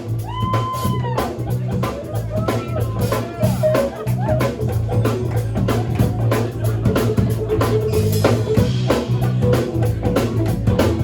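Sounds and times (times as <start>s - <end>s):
drum kit with cymbals: 0.0s - 11.0s
electric bass: 0.0s - 11.0s
electric guitar: 0.0s - 11.0s.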